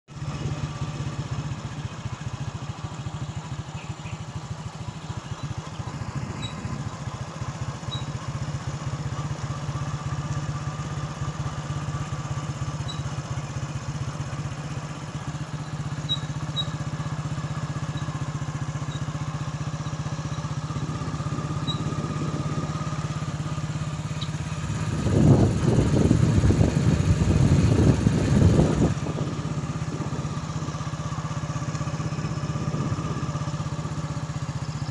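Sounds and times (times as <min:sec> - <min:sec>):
motorbike engine running: 0:00.1 - 0:34.9.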